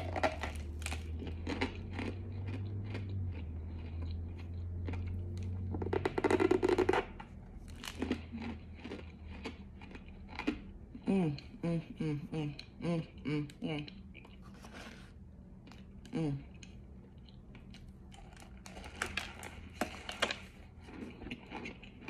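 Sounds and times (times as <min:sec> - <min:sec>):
crunching and chewing: 0:00.0 - 0:22.0
low steady hum: 0:00.0 - 0:22.0.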